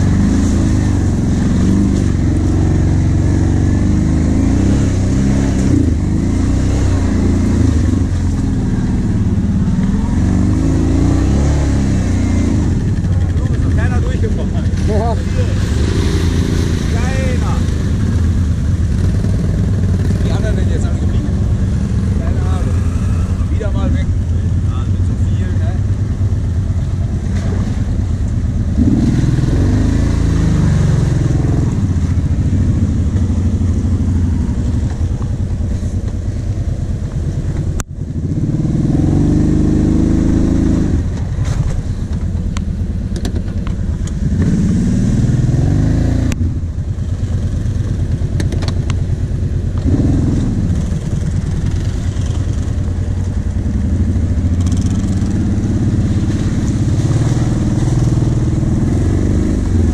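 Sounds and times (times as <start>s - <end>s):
quad engine revving: 0.0s - 25.7s, 28.6s - 35.3s, 38.2s - 41.2s, 44.0s - 46.5s, 49.7s - 59.9s.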